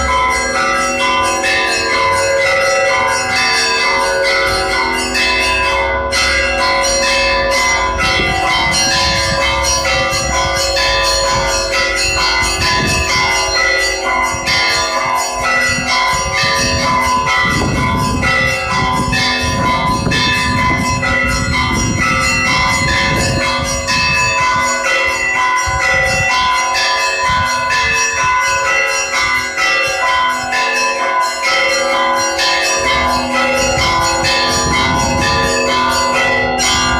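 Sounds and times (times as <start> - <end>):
church bells pealing: 0.0 - 36.9.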